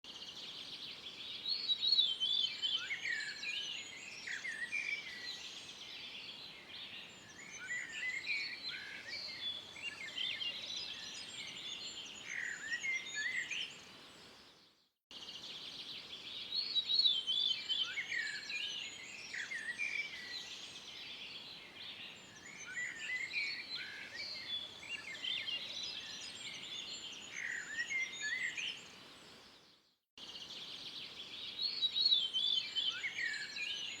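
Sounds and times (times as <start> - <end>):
birds singing and chirping: 1.4 - 13.8, 15.3 - 29.5, 30.2 - 34.0.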